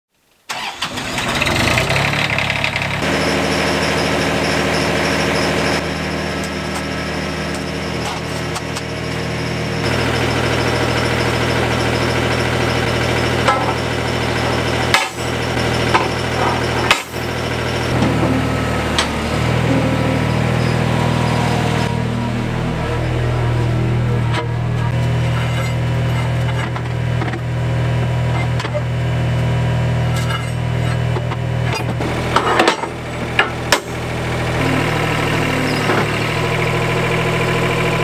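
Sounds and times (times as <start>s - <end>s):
diesel engine starting and running: 0.5s - 38.0s.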